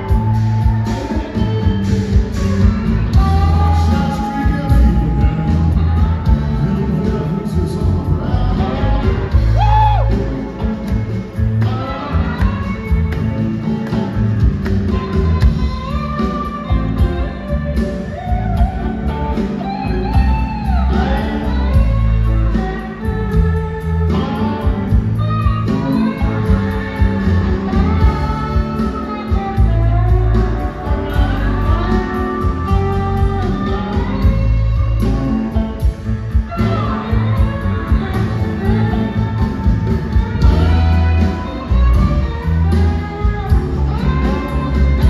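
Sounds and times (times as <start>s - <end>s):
live blues band playing: 0.0s - 45.0s.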